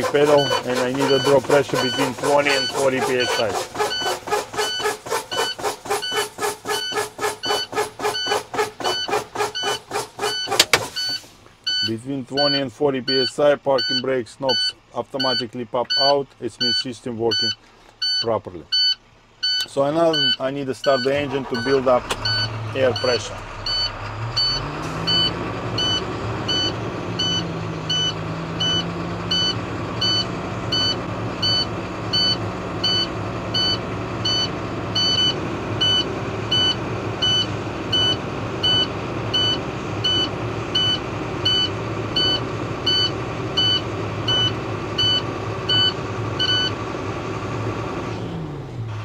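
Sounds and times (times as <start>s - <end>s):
diesel engine idling: 0.0s - 49.0s
warning buzzer beeping: 0.3s - 4.1s, 4.7s - 6.2s, 6.8s - 46.7s.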